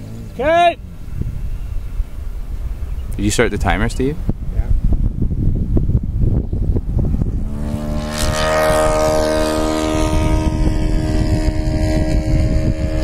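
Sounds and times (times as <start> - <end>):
drone propellers humming: 0.0 - 13.0
wind rumbling on microphone: 0.0 - 13.0.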